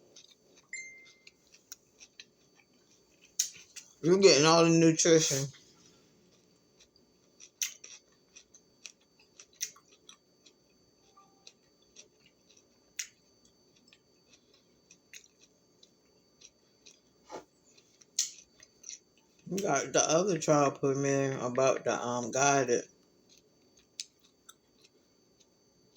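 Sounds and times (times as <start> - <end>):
crunchy vegetable chewing: 0.0 - 4.0, 5.2 - 20.7, 23.2 - 25.9.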